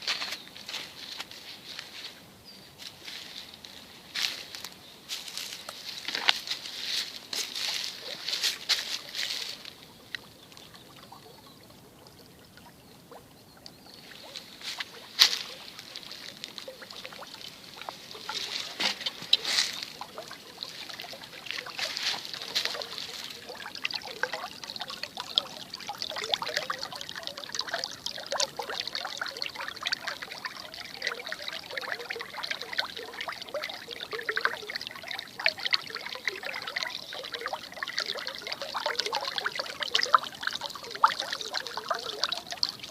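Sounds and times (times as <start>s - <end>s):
brook trickling: 0.0s - 42.9s
sharp water splashes: 5.2s - 42.9s.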